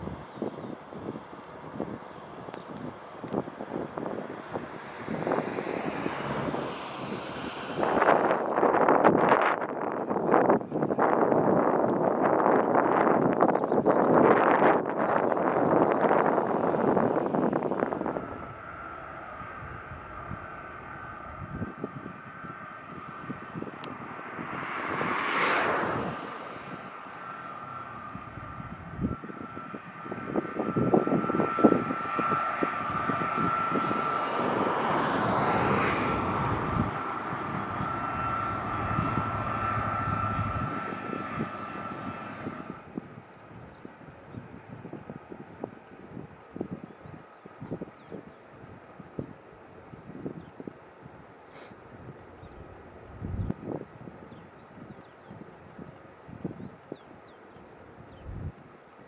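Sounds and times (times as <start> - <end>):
jet engines running: 0.0 - 13.2, 14.1 - 59.0
high engine whine: 0.0 - 59.0.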